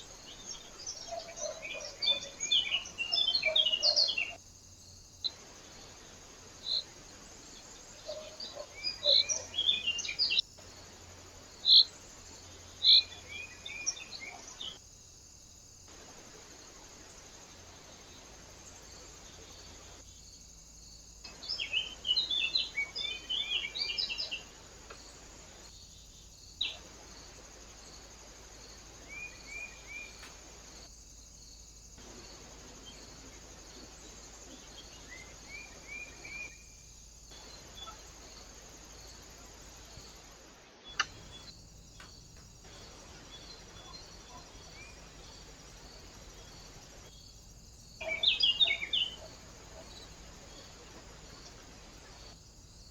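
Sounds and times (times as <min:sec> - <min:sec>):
small birds chirping: 0:00.0 - 0:14.8, 0:15.9 - 0:52.9
steady hiss: 0:00.0 - 0:52.9.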